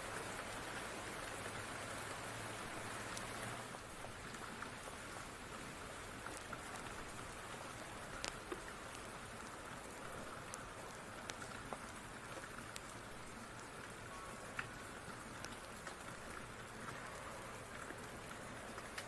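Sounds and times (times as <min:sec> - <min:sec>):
steady rain: 0:00.0 - 0:19.0
wood fire crackling: 0:02.6 - 0:19.0.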